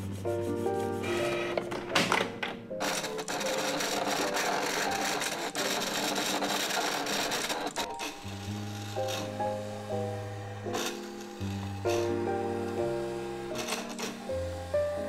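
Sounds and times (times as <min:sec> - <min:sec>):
soft background music: 0:00.0 - 0:15.0
cutting machine running: 0:02.8 - 0:15.0
inkjet printer printing: 0:02.8 - 0:15.0.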